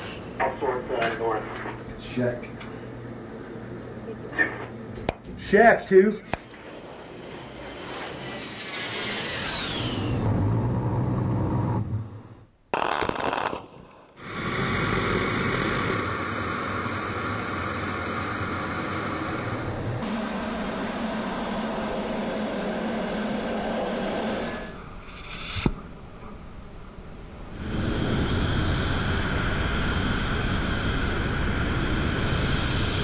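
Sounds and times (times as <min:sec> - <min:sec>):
jet engine whine: 0:00.0 - 0:12.5, 0:13.1 - 0:33.0
jet roar and airflow noise: 0:00.0 - 0:12.5, 0:13.1 - 0:33.0.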